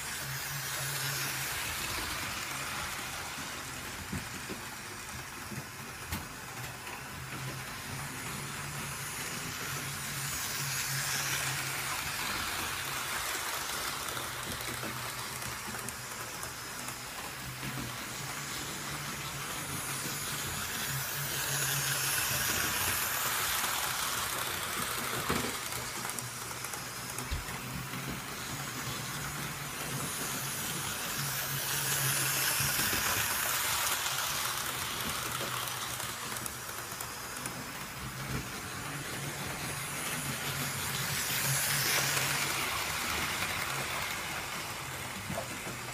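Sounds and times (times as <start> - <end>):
model train wheels rattling on rail: 0.0 - 45.9.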